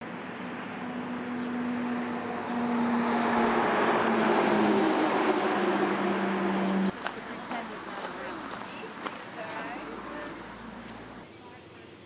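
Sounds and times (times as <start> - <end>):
vehicle engine hum: 0.0 - 11.3.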